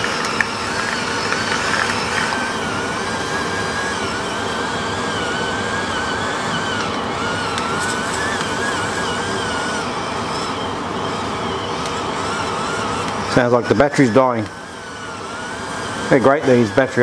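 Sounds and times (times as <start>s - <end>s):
electric grinder motor whirring: 0.0s - 17.0s.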